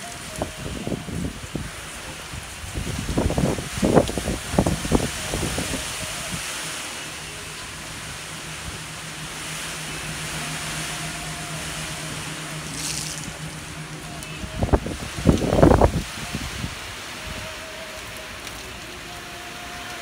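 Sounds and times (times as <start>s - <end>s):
heavy rain hissing: 0.0s - 20.0s
motorboat engine drone: 0.0s - 20.0s
wind buffeting microphone: 0.0s - 20.0s.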